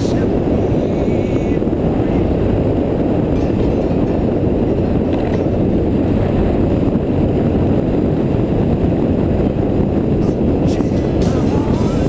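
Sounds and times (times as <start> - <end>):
motorcycle engine drone: 0.0 - 12.0
wind noise on microphone: 0.0 - 12.0.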